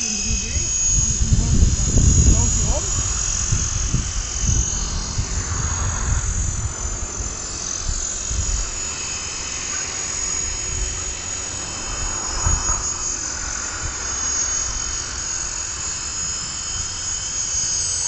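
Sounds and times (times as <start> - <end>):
wind buffeting microphone: 0.0 - 17.3
model helicopter whining: 0.0 - 18.0.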